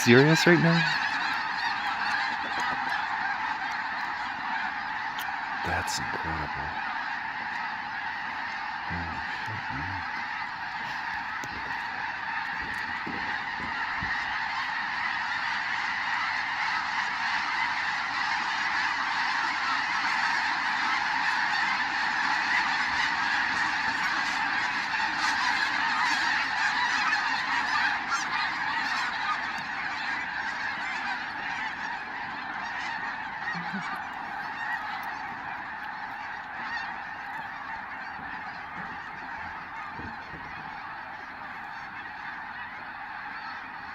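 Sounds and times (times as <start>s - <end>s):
flock of geese honking: 0.0s - 43.9s.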